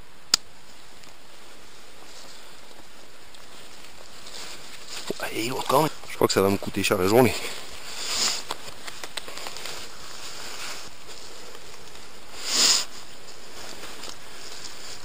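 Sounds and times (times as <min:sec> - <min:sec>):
dry leaves rustling and scraping: 0:01.3 - 0:15.0.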